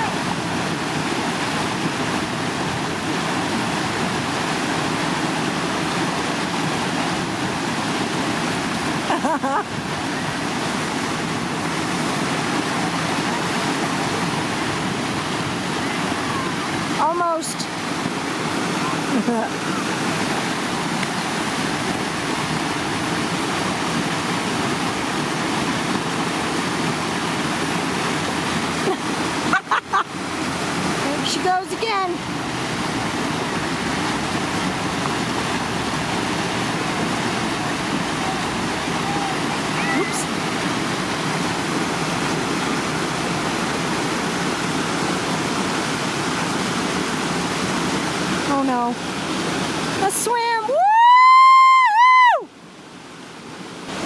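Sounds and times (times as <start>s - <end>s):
whitewater rushing: 0.0s - 54.0s.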